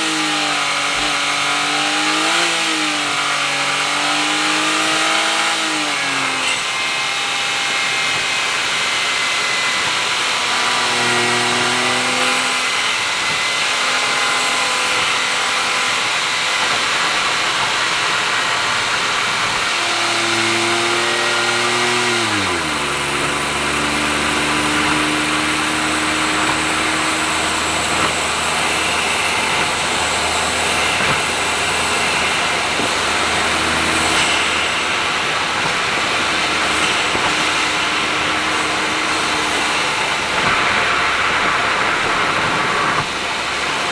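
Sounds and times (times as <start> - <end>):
car engine cruising: 0.0 - 43.9
tyre and road noise: 0.0 - 43.9.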